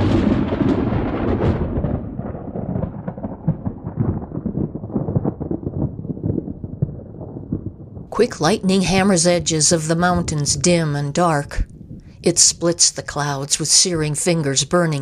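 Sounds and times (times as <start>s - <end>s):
rolling thunder with crackling: 0.0s - 12.3s.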